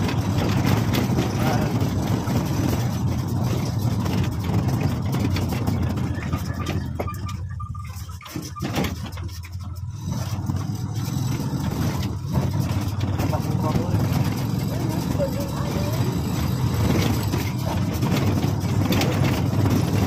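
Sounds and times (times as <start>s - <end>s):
road and wind noise: 0.0s - 20.0s
small motorcycle engine running: 0.0s - 20.0s.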